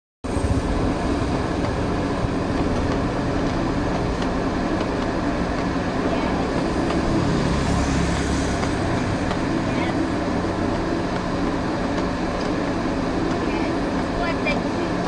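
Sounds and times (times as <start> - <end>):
blower fan humming: 0.2 - 15.0
outdoor noise: 0.2 - 15.0.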